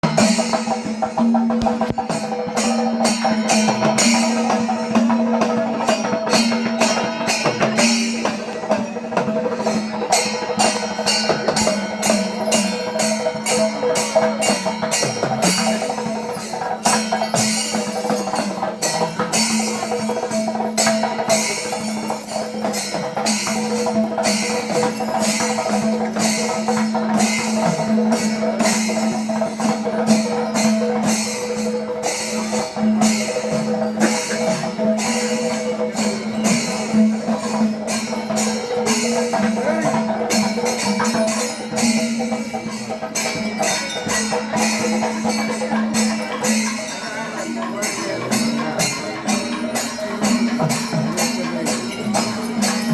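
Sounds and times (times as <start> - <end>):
drums beaten fast: 0.0 - 52.9
hand cymbals clashing: 0.0 - 52.9.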